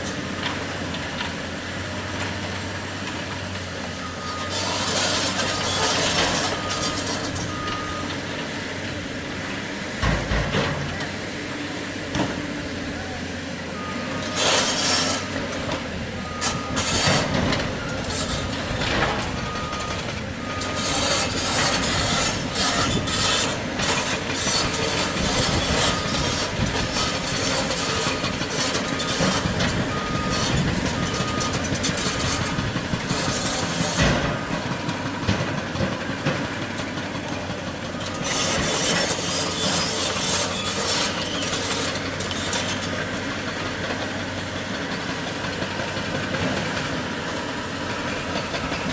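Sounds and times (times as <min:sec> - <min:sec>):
diesel machinery engines running: 0:00.0 - 0:48.9.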